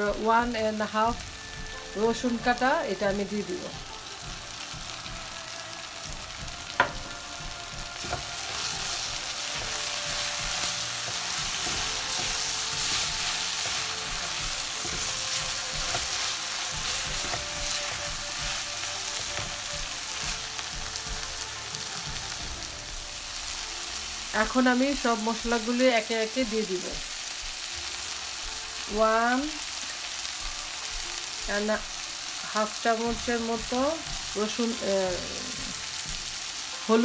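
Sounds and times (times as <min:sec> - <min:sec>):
onions sizzling in a frying pan: 0:00.0 - 0:37.0.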